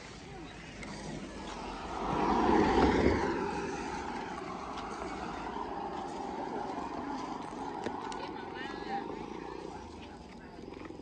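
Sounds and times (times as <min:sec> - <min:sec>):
traffic hum: 0:00.0 - 0:11.0
vehicle passing by: 0:00.8 - 0:10.0.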